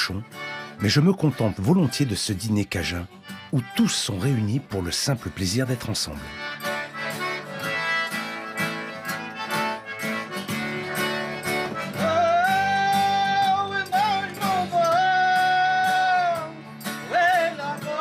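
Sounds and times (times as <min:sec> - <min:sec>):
acoustic guitar strumming: 0:00.0 - 0:18.0
high held melody notes: 0:00.0 - 0:18.0.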